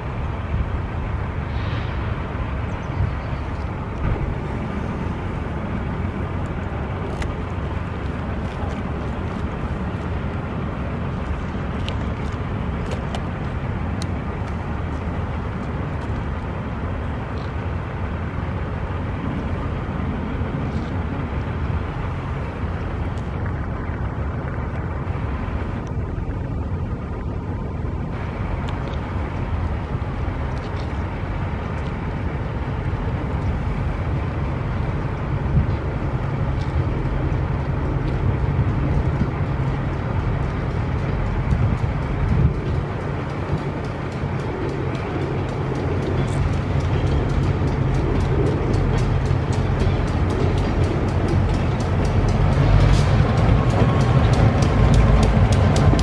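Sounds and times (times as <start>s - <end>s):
locomotive engine rumble: 0.0s - 56.0s.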